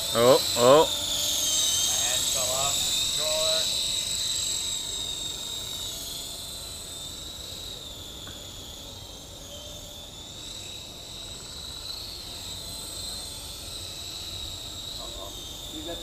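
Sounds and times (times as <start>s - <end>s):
remote-control helicopter whine: 0.0s - 16.0s.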